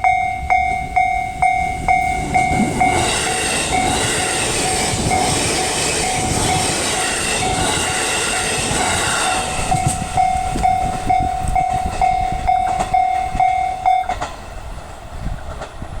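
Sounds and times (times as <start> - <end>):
crossing warning bell ringing: 0.0 - 14.7
electric train rushing past: 0.0 - 16.0.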